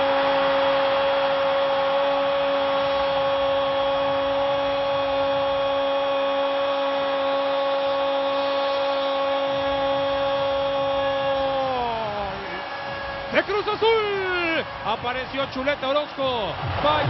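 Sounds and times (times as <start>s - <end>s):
stadium crowd roaring: 0.0s - 17.0s.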